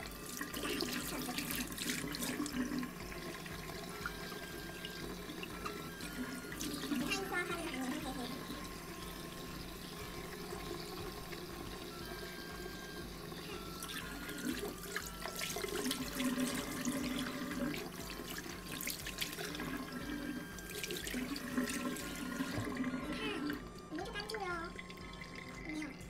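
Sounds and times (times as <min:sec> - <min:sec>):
tap water running into basin: 0:00.0 - 0:26.0.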